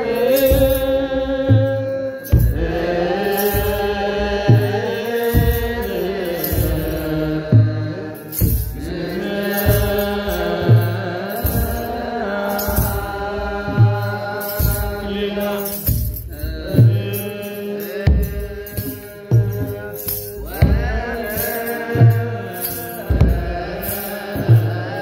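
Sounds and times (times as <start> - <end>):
group chanting in held notes: 0.0 - 25.0
low drum beat: 0.0 - 25.0
sistrums shaken: 0.0 - 25.0.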